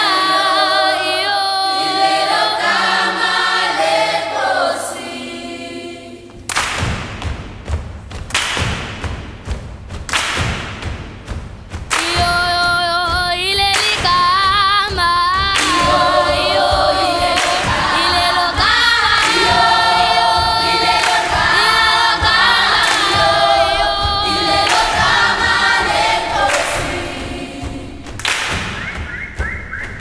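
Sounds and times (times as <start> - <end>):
children's choir singing: 0.0 - 7.1, 11.9 - 30.0
rhythmic thumps: 0.0 - 30.0.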